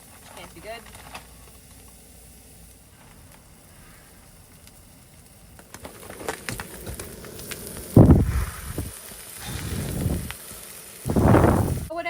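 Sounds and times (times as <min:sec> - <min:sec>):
cooking fire crackling: 0:00.0 - 0:12.0.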